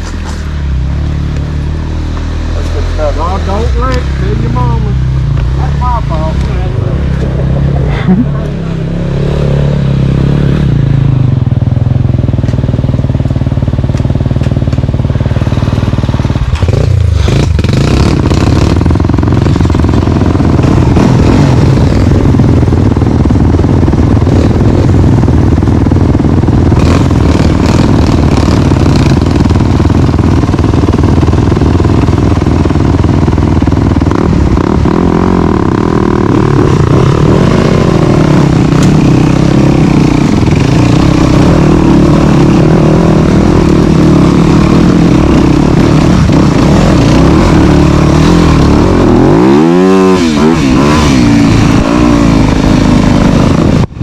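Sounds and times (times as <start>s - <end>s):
dirt bike engine revving: 0.0s - 11.5s, 15.2s - 54.0s.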